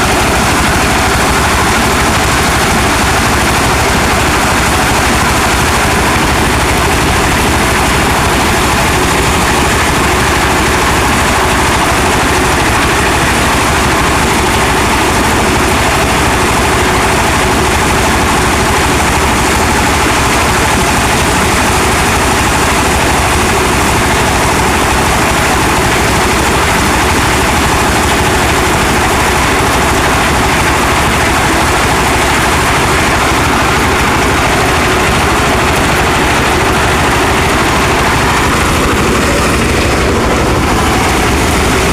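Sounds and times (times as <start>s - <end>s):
heavy farm machinery engine: 0.0s - 41.9s.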